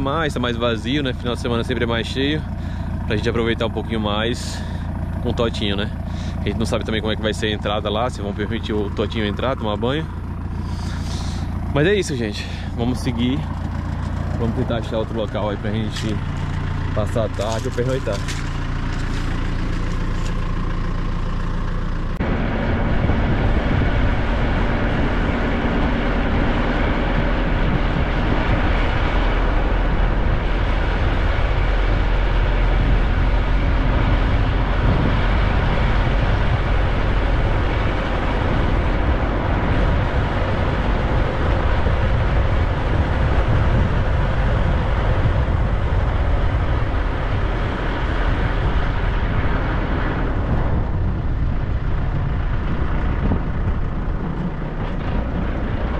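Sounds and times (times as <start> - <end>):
road and wind noise: 0.0 - 55.9
van engine running: 0.0 - 55.9.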